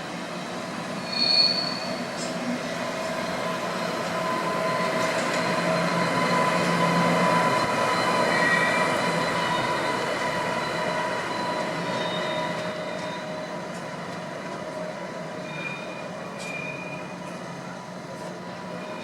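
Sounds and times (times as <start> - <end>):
train rail noise: 0.0 - 19.0
high squealing of train wheels: 0.4 - 19.0.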